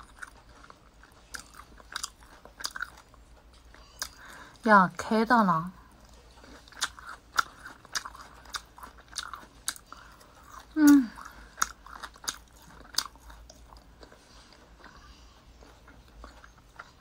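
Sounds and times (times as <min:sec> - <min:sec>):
chewing with wet mouth smacks: 0:00.0 - 0:04.3, 0:06.0 - 0:17.0.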